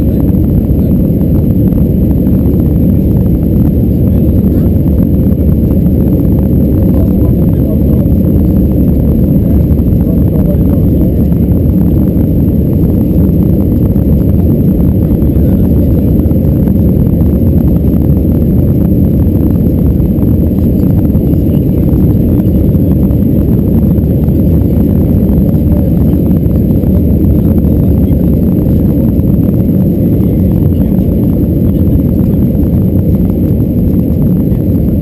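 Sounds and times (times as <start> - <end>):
airplane cabin rumble: 0.0 - 35.0.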